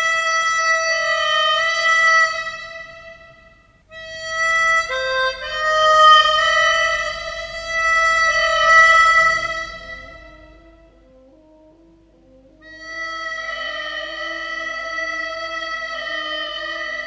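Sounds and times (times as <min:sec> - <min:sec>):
harmonica playing long notes: 0:00.0 - 0:17.0.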